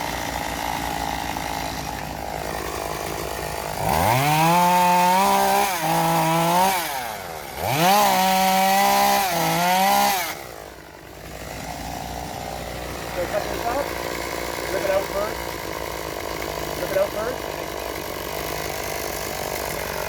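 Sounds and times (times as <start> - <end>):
chainsaw idling and revving: 0.0 - 20.0.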